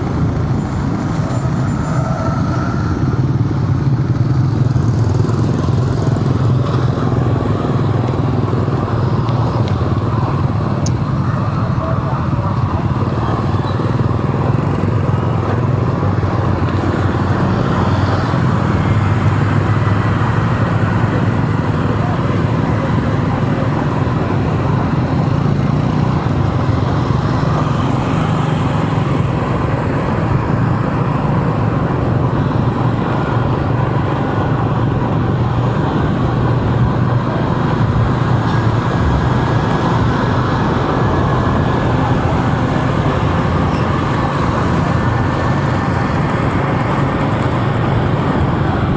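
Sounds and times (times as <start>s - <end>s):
engine and road noise: 0.0s - 48.9s
motorcycles passing: 0.0s - 48.9s.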